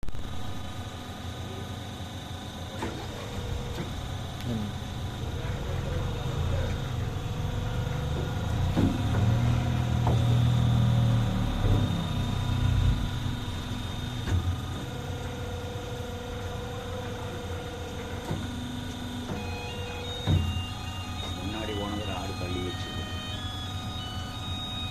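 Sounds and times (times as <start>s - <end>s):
cutting machine hum and whine: 0.0s - 24.9s.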